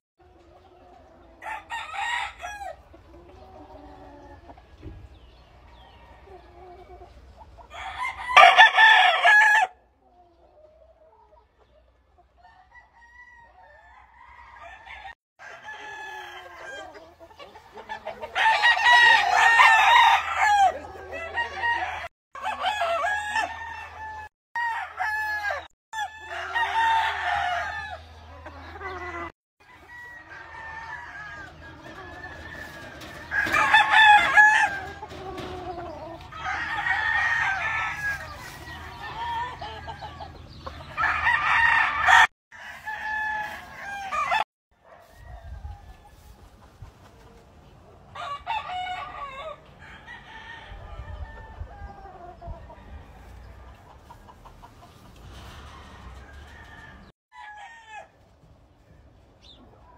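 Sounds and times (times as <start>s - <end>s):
chickens clucking: 0.2s - 24.3s, 25.2s - 57.1s, 58.2s - 59.9s
roosters crowing: 0.3s - 9.9s, 12.4s - 46.4s, 48.0s - 59.1s.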